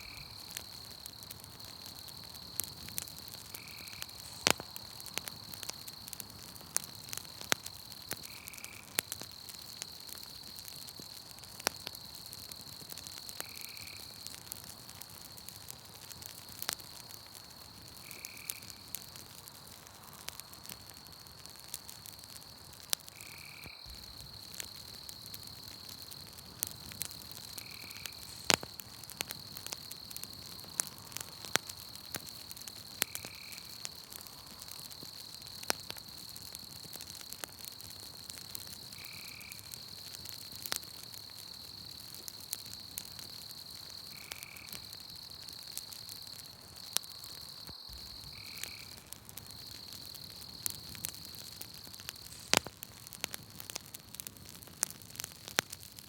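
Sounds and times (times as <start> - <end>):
high chirring night insects: 0.0 - 55.9
campfire crackling: 0.0 - 56.0.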